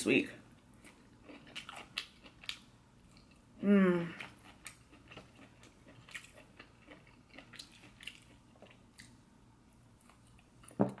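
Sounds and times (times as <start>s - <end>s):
faint chewing: 0.8s - 3.4s, 4.0s - 10.8s.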